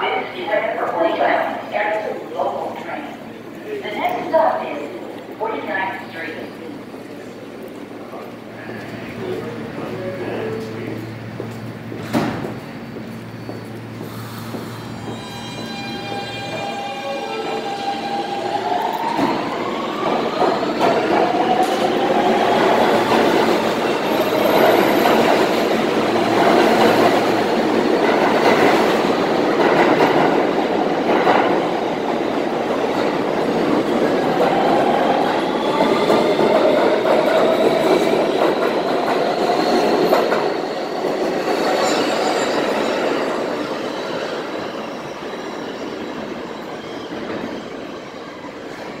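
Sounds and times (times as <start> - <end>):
train wheels rumbling on rail: 3.3 - 49.0
subway traction motor whine: 8.4 - 49.0.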